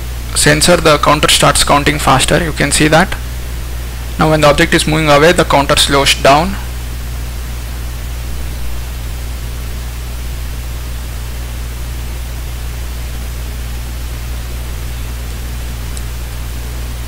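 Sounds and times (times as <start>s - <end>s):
low electrical hum: 0.0s - 17.0s
microphone hiss: 0.0s - 17.0s.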